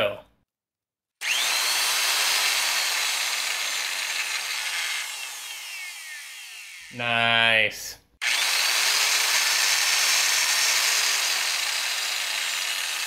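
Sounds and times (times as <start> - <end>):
angle grinder whine: 1.2 - 7.0, 8.2 - 13.0.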